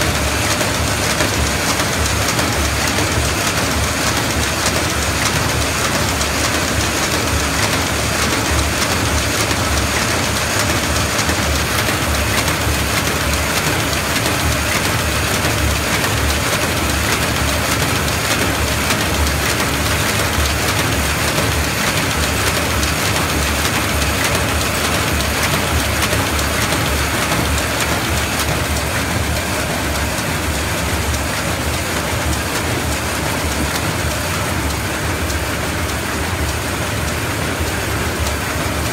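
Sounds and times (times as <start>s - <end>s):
paper bag machine clattering: 0.0s - 36.8s.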